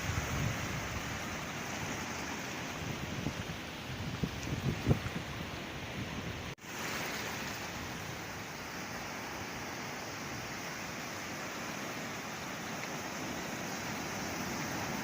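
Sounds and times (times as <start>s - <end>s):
sea waves and surf: 0.0s - 15.0s.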